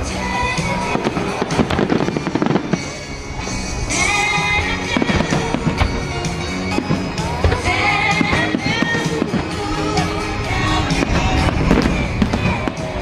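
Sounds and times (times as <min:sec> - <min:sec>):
fireworks bursting and crackling: 0:00.0 - 0:13.0
music: 0:00.0 - 0:13.0.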